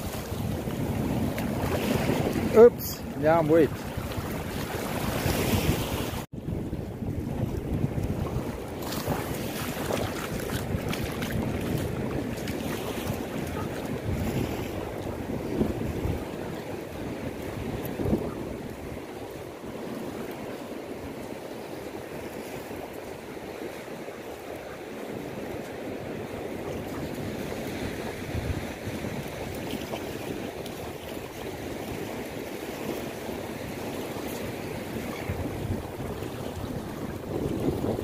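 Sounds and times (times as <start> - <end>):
waves washing onto sand: 0.0 - 38.0
wind buffeting microphone: 0.0 - 38.0.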